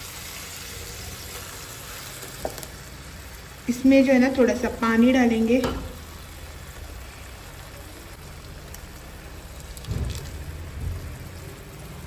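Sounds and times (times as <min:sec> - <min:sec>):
gravy sizzling in pan: 0:00.0 - 0:12.0.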